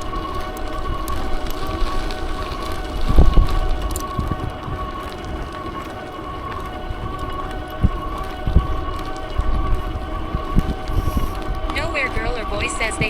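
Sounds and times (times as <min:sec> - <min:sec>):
steady whine of held tones: 0:00.0 - 0:13.0
wind buffeting microphone: 0:00.0 - 0:13.0.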